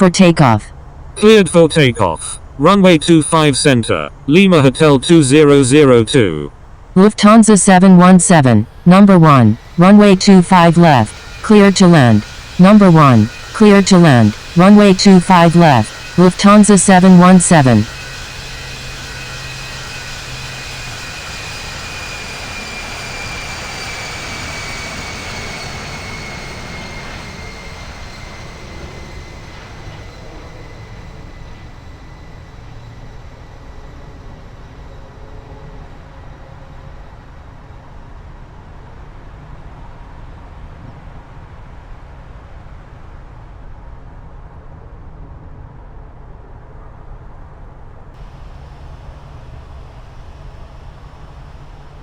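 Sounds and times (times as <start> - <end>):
jet engines whining: 0.0 - 43.8, 48.2 - 52.0.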